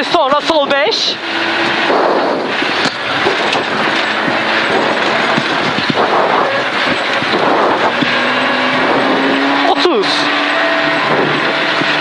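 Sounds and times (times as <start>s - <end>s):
car engine running under load: 0.0s - 12.0s
chassis rattling and knocking: 0.1s - 12.0s.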